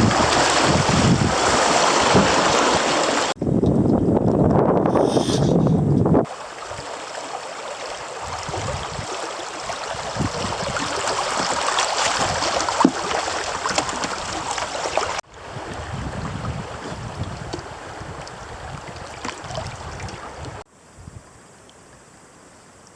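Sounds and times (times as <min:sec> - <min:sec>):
creek water flowing: 0:00.0 - 0:03.7, 0:04.4 - 0:20.7.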